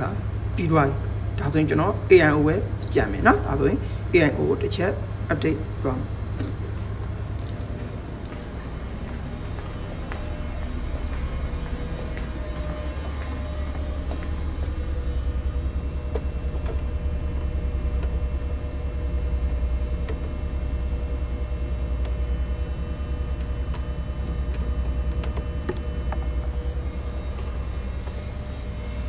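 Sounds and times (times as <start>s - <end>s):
constant hum: 0.0s - 29.0s
ship machinery rumble: 0.0s - 29.0s.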